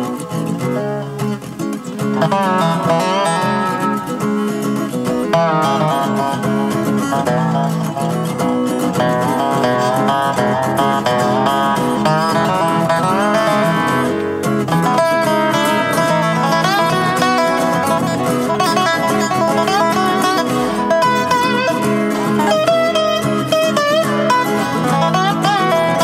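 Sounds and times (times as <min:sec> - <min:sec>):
acoustic guitar and dobro playing: 0:00.0 - 0:26.0.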